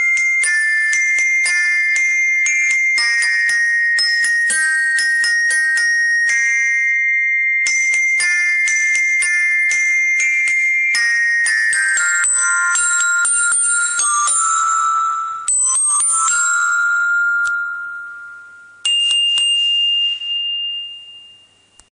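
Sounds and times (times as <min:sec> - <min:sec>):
glockenspiel notes ringing: 0:00.0 - 0:21.9.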